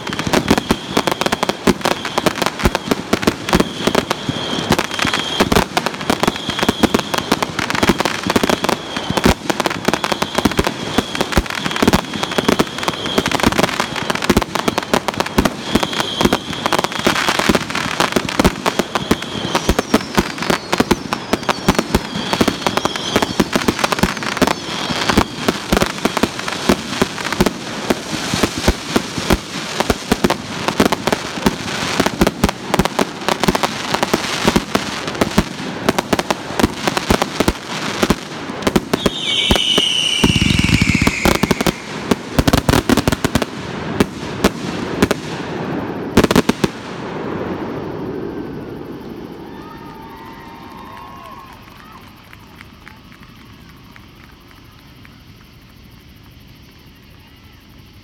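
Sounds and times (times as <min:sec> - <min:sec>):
fireworks launching and banging: 0:00.0 - 0:48.5
fireworks crackling overhead: 0:00.0 - 0:58.0.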